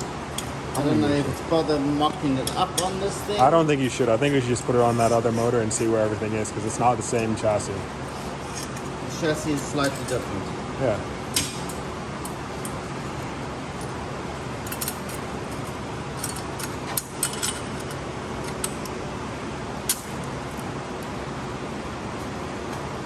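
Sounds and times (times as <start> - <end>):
fan running: 0.0 - 23.0.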